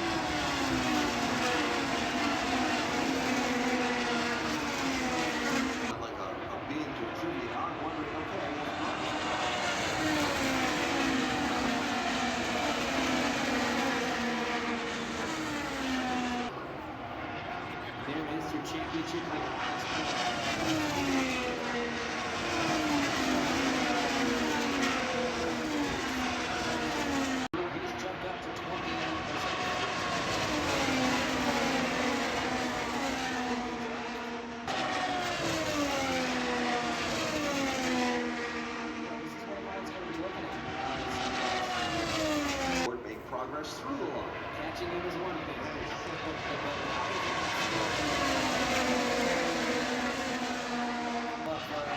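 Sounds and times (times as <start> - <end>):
race car engines passing: 0.0 - 51.9.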